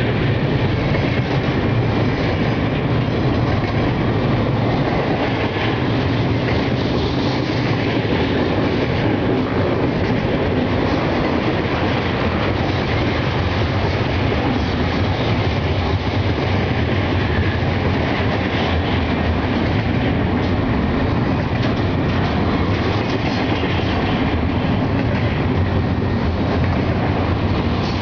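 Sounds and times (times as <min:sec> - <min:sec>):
steel train wheels on rail: 0:00.0 - 0:28.0.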